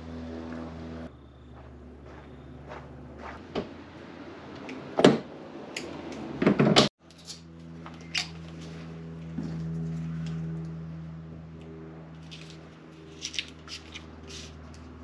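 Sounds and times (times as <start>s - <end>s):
steady low hum: 0.0s - 6.4s, 7.1s - 15.0s.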